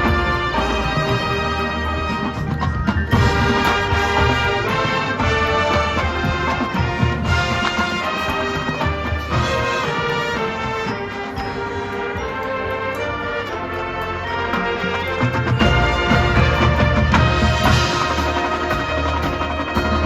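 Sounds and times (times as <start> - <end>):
marching band playing: 0.0 - 20.0.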